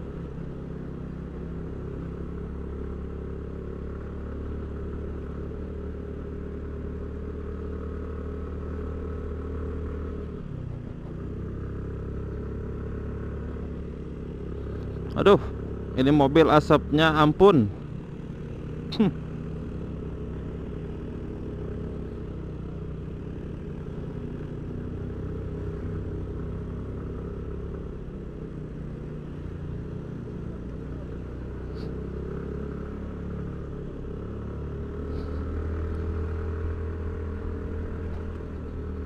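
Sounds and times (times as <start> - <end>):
motorcycle engine cruising: 0.0 - 39.0
vehicle engine hum: 0.0 - 39.0.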